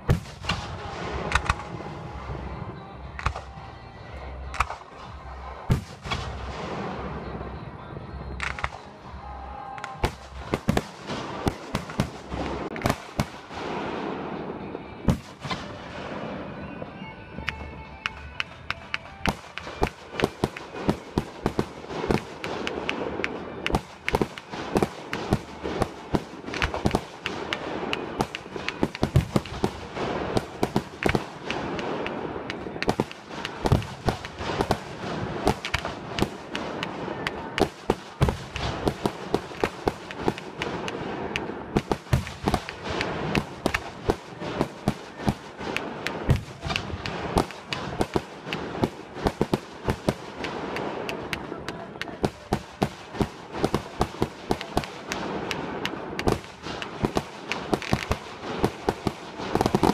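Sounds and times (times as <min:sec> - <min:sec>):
fireworks bursting: 0:00.0 - 0:03.8, 0:04.5 - 0:59.9
fireworks crackling: 0:00.0 - 0:59.9.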